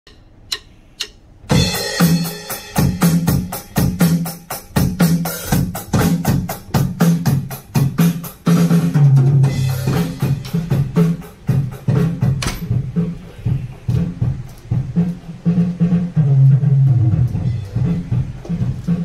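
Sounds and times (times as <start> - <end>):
drum kit playing a groove: 1.5 - 19.0.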